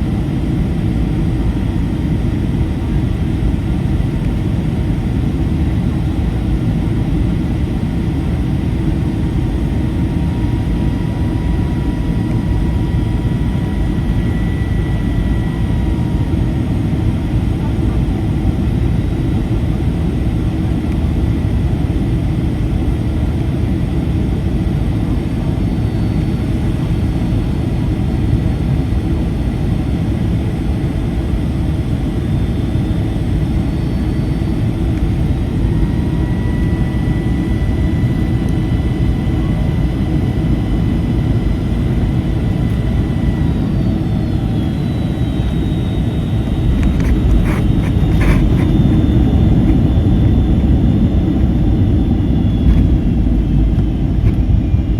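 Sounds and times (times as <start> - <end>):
aircraft cabin rumble: 0.0 - 54.9.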